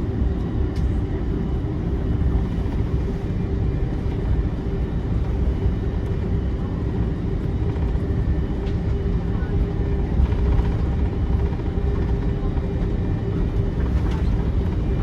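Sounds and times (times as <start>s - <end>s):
low rumble of jet engines: 0.0s - 15.0s.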